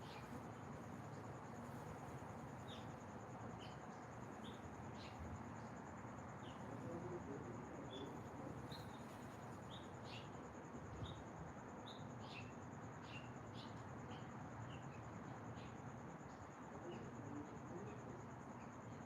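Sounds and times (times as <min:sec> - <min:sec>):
insect trill: 0:00.0 - 0:19.0
small birds chirping: 0:00.0 - 0:19.0
soft background hiss: 0:00.0 - 0:19.0.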